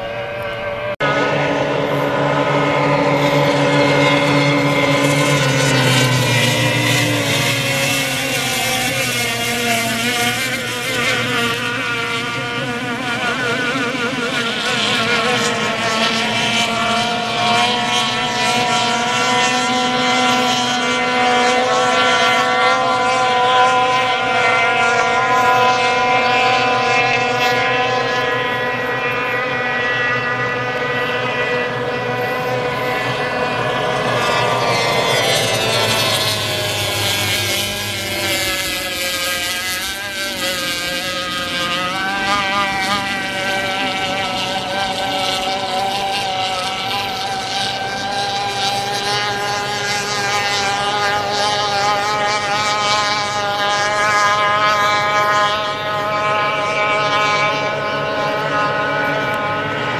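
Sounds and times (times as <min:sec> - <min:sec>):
racing outboard motors: 0:00.0 - 0:59.9.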